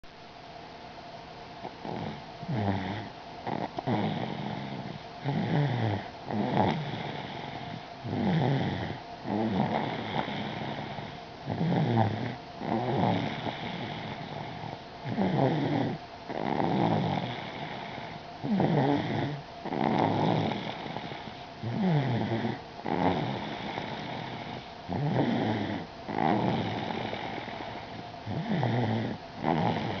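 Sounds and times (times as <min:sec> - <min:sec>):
toddler snoring: 0:01.6 - 0:30.0.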